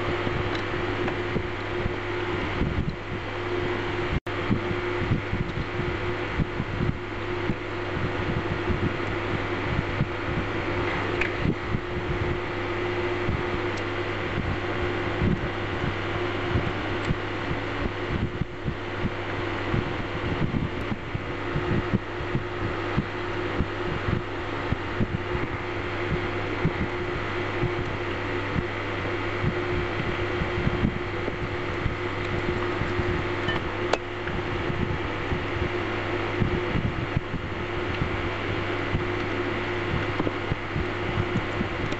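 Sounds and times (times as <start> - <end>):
fan-like mechanical hum: 0.0 - 41.9.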